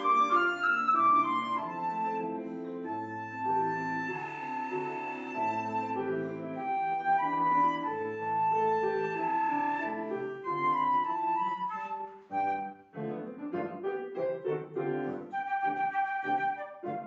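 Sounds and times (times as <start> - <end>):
flute melody of held notes: 0.0 - 13.0, 14.7 - 17.0
piano accompaniment: 0.0 - 17.0.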